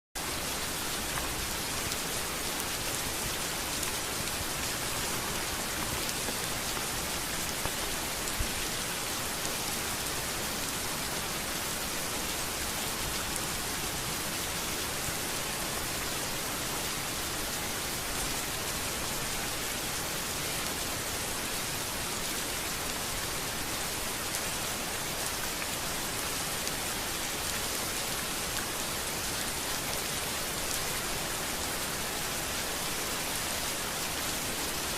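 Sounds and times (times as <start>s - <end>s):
rain falling on street: 0.2s - 34.9s.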